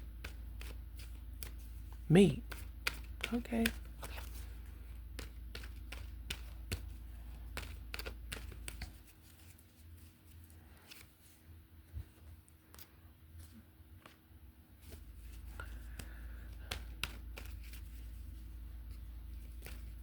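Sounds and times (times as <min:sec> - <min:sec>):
cards being shuffled: 0:00.0 - 0:20.0.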